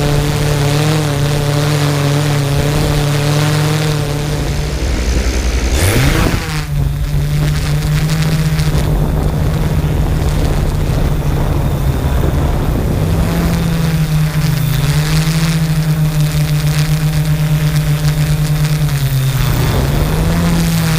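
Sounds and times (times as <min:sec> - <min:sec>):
drone propellers whirring: 0:00.0 - 0:20.9.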